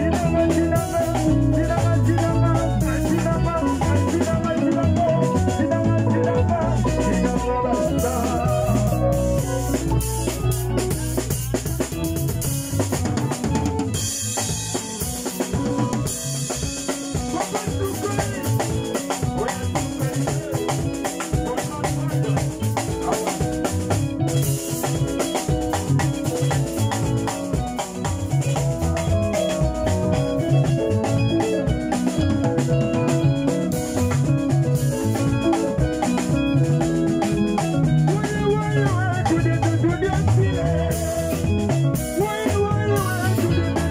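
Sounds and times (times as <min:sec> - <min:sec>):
drum kit groove: 0:00.0 - 0:43.9
electric guitar: 0:00.0 - 0:43.9
keyboard: 0:00.0 - 0:43.9.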